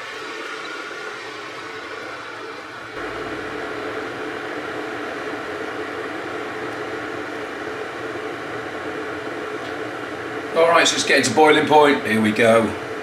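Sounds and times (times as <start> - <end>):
electric kettle heating water: 0.0 - 13.0.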